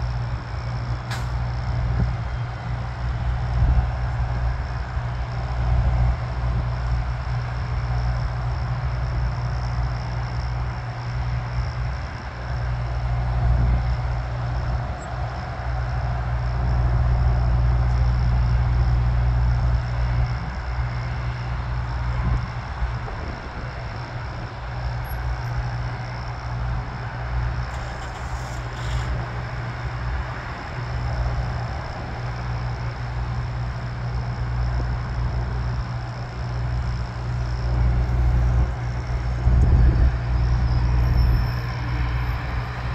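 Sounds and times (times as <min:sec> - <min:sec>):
distant jet engine taxiing: 0:00.0 - 0:42.9.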